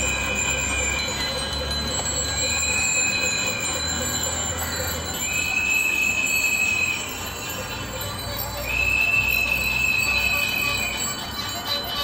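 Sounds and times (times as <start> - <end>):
bicycle bells ringing: 0.0 - 12.0.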